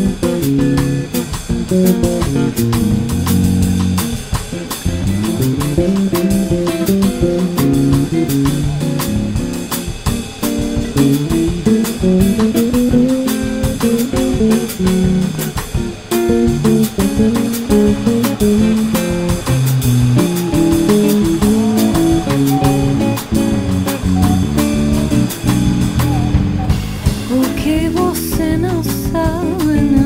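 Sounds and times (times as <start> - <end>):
bass: 0.0 - 30.0
plucked guitar: 0.0 - 30.0
steady drum beat: 0.0 - 30.0.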